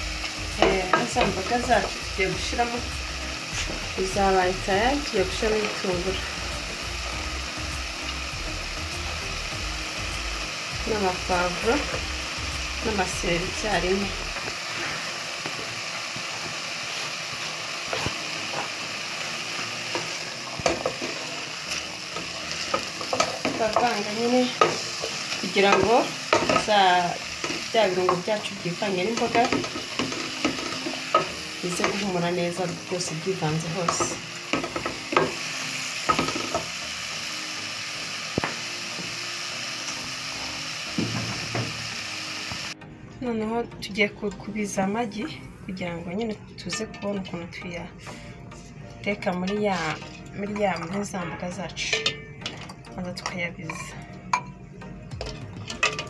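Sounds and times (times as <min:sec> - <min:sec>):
vegetables sizzling in oil: 0:00.0 - 0:42.8, 0:44.6 - 0:54.5.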